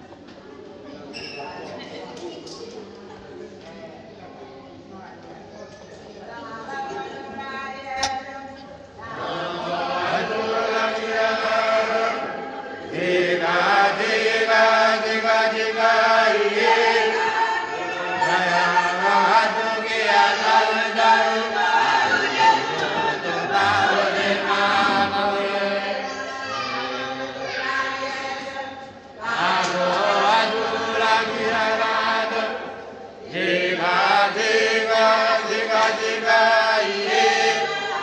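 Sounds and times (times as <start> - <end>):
congregation singing a hymn: 6.7 - 38.0.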